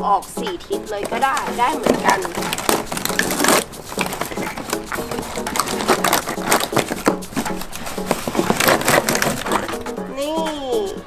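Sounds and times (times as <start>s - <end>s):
background music: 0.0s - 11.0s
cardboard box rustling and scraping: 0.9s - 9.9s.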